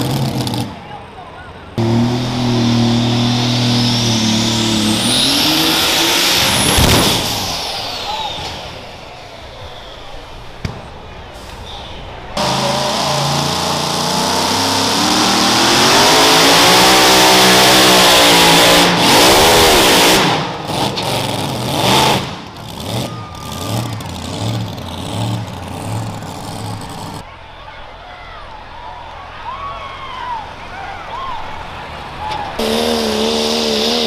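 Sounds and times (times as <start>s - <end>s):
tractor engine at full throttle: 0.0s - 34.0s.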